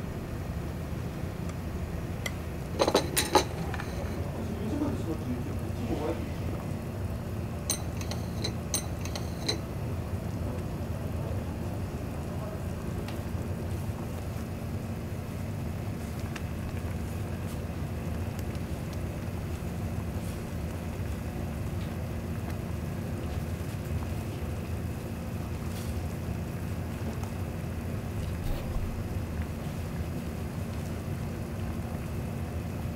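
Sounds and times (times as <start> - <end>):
broth bubbling in a pot: 0.0 - 32.9.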